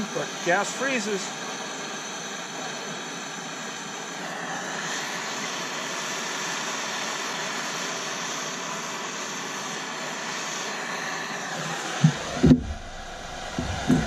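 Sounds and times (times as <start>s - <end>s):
gas torch hissing: 0.0s - 14.0s.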